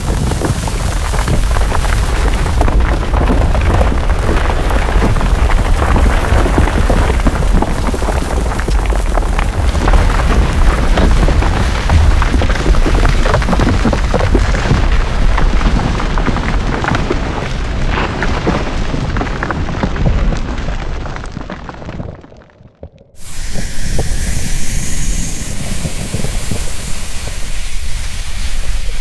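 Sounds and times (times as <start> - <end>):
deep volcanic rumble: 0.0 - 22.2, 23.2 - 29.0
crackling and popping: 0.0 - 29.0.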